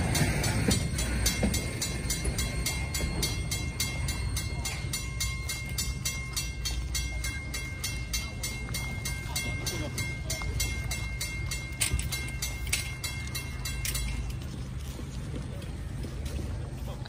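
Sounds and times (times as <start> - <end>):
railroad crossing bell ringing: 0.0 - 16.7
freight train rumble: 0.0 - 17.0.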